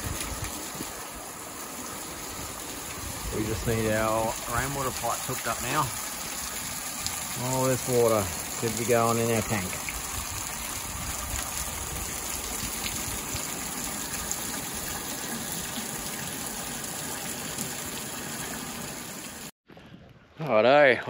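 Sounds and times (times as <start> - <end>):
rain falling: 0.0 - 19.5
rainwater pouring off a roof: 0.0 - 19.5.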